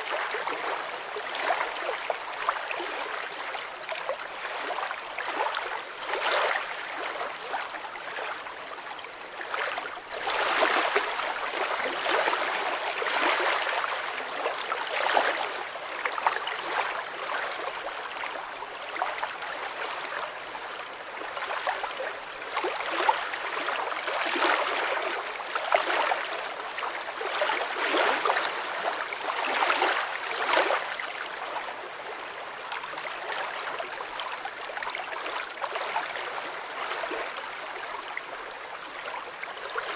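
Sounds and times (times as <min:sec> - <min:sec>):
water rushing and trickling: 0:00.0 - 0:39.9.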